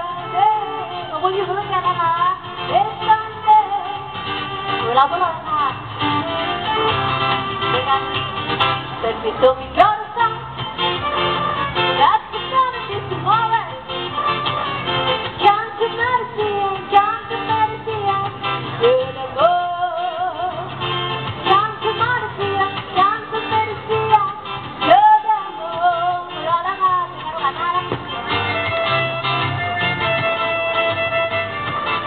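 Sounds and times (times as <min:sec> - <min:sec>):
acoustic guitar: 0:00.0 - 0:32.0.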